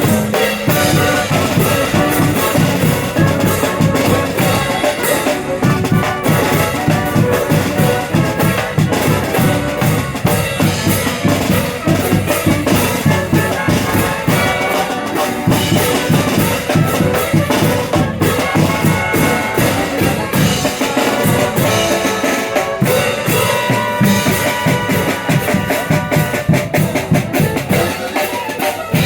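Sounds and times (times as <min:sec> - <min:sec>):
brass horns: 0:00.0 - 0:29.0
drums beat: 0:00.0 - 0:29.0.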